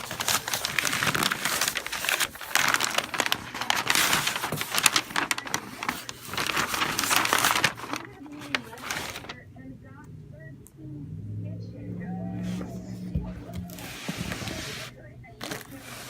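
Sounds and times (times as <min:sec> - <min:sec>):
cardboard box packing rustling: 0:00.0 - 0:09.4, 0:12.5 - 0:16.0.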